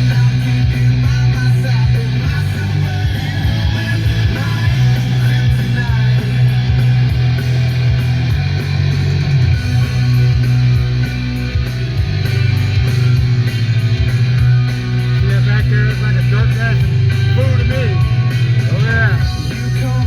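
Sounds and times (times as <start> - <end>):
rock music with guitar: 0.0 - 20.0
strong steady bass: 0.0 - 20.0.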